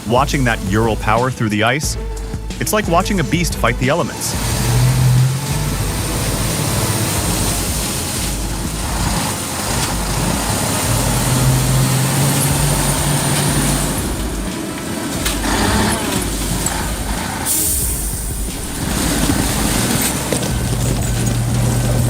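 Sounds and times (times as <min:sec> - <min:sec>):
heavy truck engine running: 0:00.0 - 0:22.0
steady rushing noise: 0:00.0 - 0:22.0.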